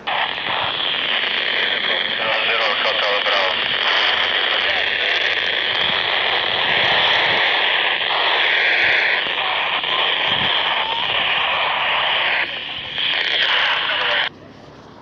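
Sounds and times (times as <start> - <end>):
radio static hiss: 0.0 - 14.3.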